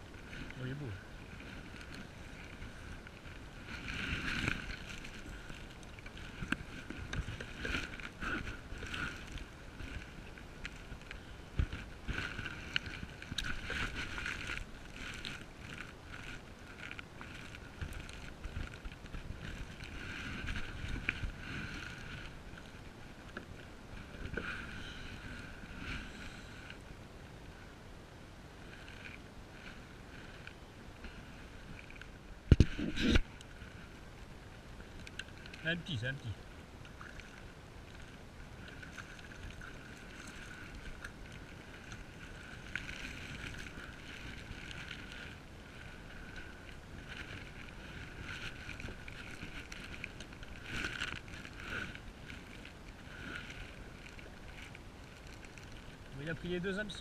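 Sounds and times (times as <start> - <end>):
water sloshing around kayak: 0.0 - 57.0.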